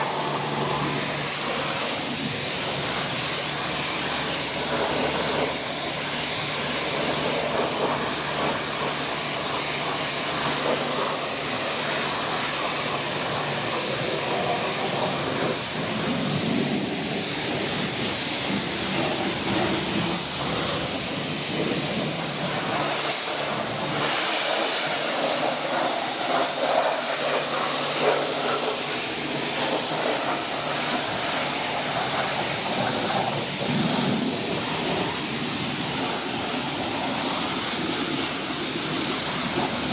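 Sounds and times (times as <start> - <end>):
high-pressure water jet hissing: 0.0 - 39.9.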